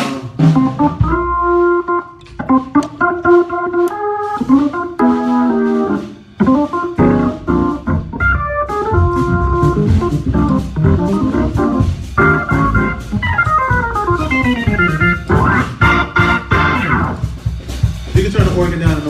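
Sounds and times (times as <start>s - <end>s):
organ playing chords: 0.0s - 18.9s.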